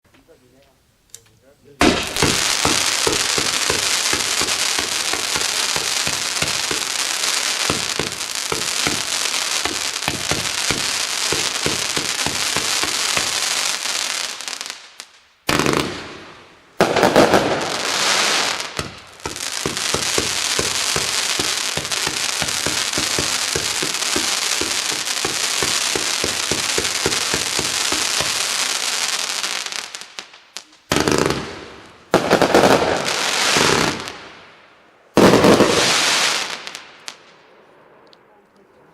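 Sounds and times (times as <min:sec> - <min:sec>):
firework cake firing: 0:01.8 - 0:34.3, 0:35.2 - 0:37.2
firework crackling: 0:01.8 - 0:37.4.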